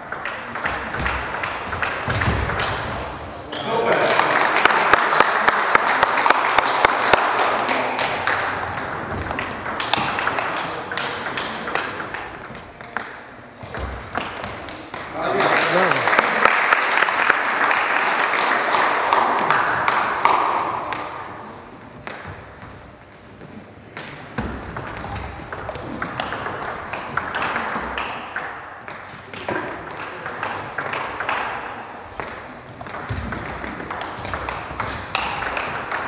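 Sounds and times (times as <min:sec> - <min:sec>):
table tennis ball hitting paddles: 0:00.0 - 0:04.0, 0:05.7 - 0:15.9, 0:18.2 - 0:36.0.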